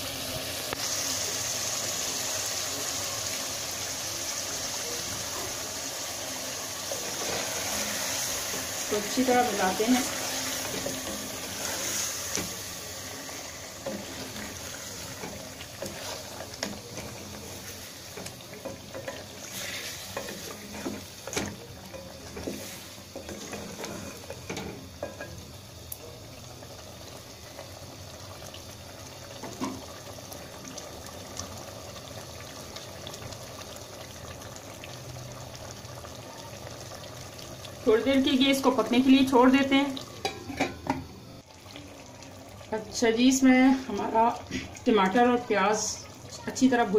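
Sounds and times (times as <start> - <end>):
masala sizzling: 0.0 - 46.9.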